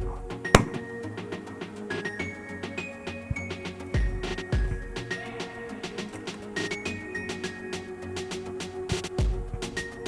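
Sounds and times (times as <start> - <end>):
music with mallet tones and beat: 0.0 - 10.0.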